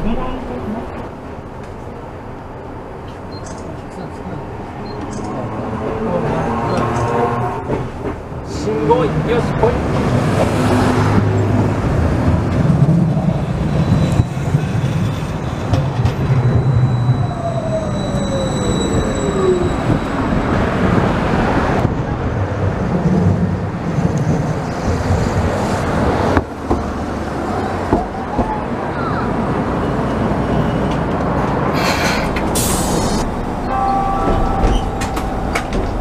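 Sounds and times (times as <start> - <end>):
road traffic: 0.0 - 36.0
tram electric whine: 0.0 - 36.0
tram rolling past: 0.0 - 36.0.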